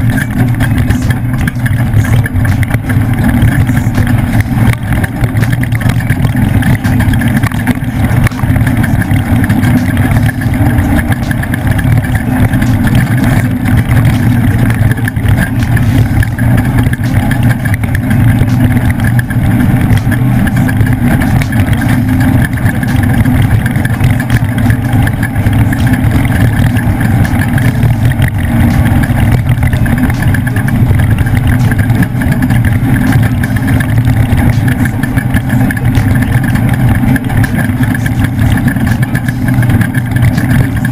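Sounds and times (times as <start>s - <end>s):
race truck engine running loud: 0.0s - 40.9s
truck rumbling over rough course: 0.0s - 40.9s.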